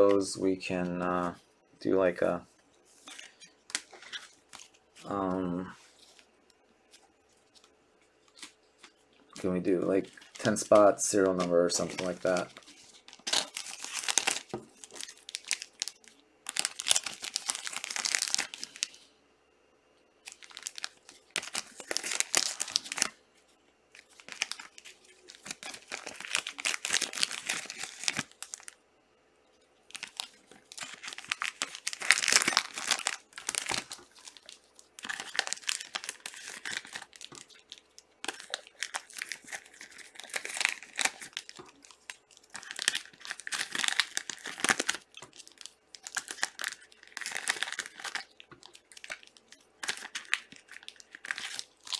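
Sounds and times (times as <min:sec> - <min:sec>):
plastic wrappers crinkling and tearing: 0:03.0 - 0:06.3, 0:06.9 - 0:19.1, 0:20.2 - 0:23.2, 0:23.9 - 0:28.8, 0:29.8 - 0:51.9.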